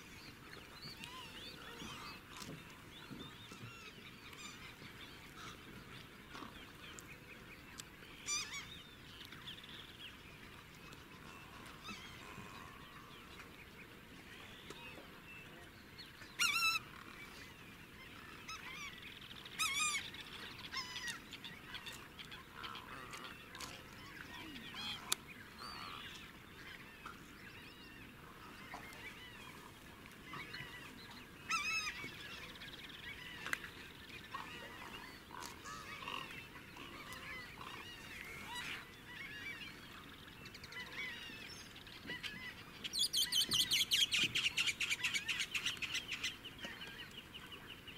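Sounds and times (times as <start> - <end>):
birds chirping and calling: 0.1 - 47.9.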